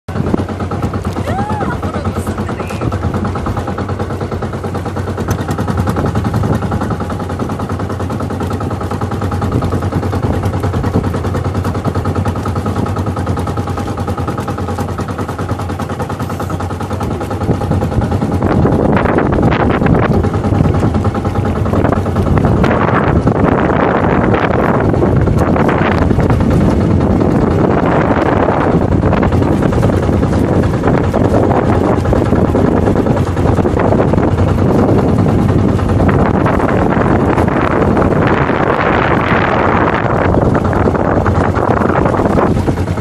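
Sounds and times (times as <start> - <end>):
boat engine puttering: 0.1 - 43.0
wind buffeting microphone: 0.1 - 43.0.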